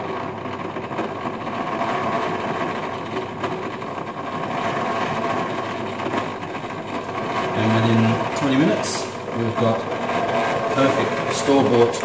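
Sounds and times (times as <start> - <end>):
ice cream maker motor humming: 0.0 - 12.0.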